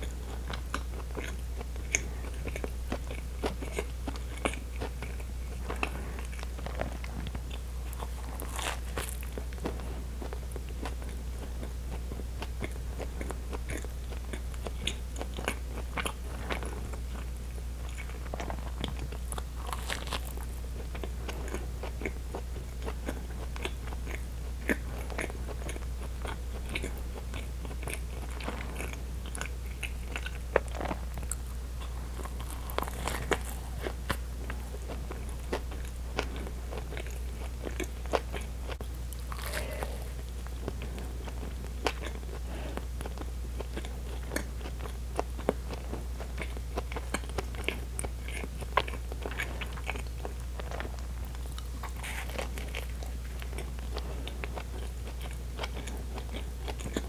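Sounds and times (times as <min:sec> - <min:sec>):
low hum: 0:00.0 - 0:46.7
chewing soft bread: 0:00.0 - 0:57.0.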